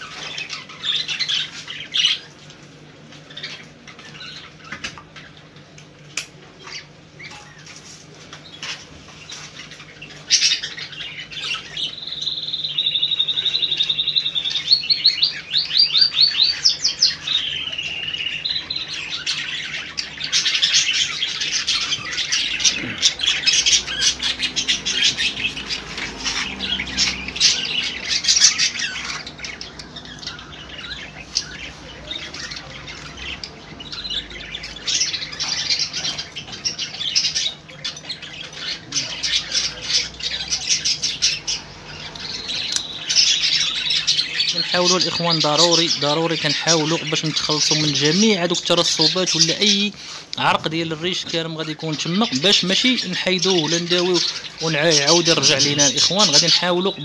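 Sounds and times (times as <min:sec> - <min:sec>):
cage bird chirping and squawking: 0:00.0 - 0:57.0.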